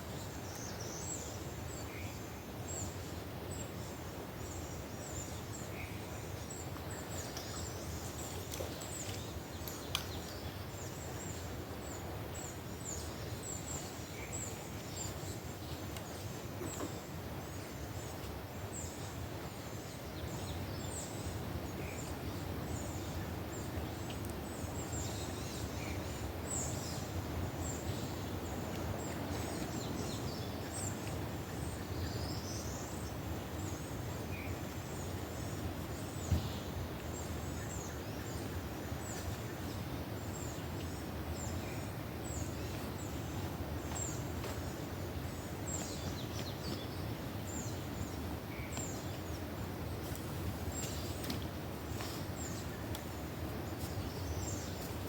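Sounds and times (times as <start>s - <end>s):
steady low rush of river: 0.0s - 55.0s.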